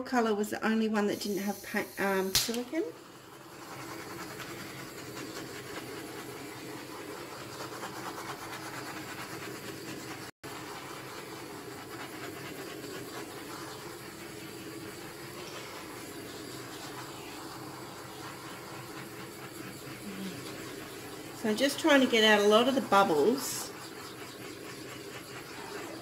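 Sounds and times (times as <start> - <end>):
torch flame hissing: 1.1 - 26.0.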